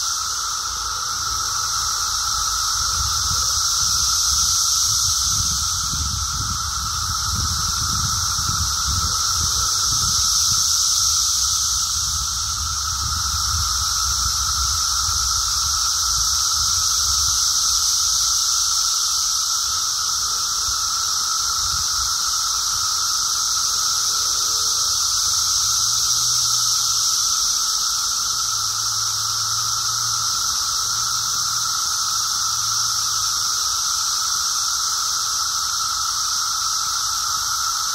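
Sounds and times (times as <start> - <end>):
cicadas droning chorus: 0.0 - 37.9.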